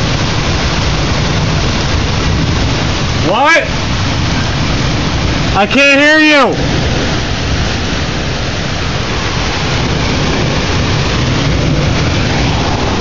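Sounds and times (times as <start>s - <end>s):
heavy rain and wind: 0.0s - 13.0s
low rumble: 0.0s - 13.0s.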